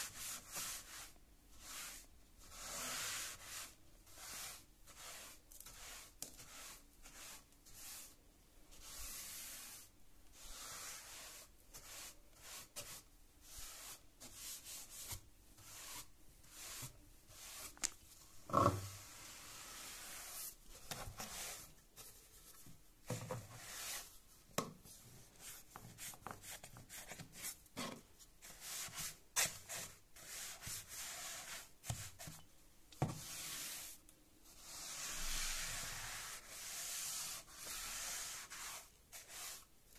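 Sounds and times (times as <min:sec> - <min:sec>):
brush sweeping grit on stairs: 0:00.0 - 0:17.8, 0:18.6 - 0:22.4, 0:28.4 - 0:32.4, 0:33.1 - 0:39.7.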